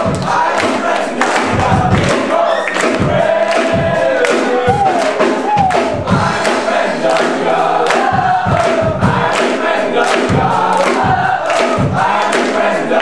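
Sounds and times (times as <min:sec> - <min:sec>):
crowd singing in unison: 0:00.0 - 0:13.0
percussive hits: 0:00.0 - 0:13.0
singers and band playing: 0:00.0 - 0:13.0.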